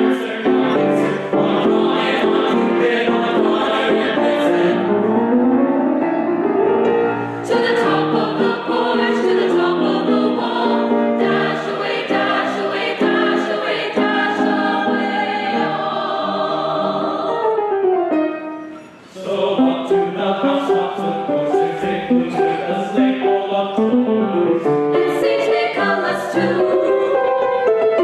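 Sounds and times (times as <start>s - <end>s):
choir singing: 0.0s - 5.4s, 7.2s - 17.9s, 19.0s - 28.0s.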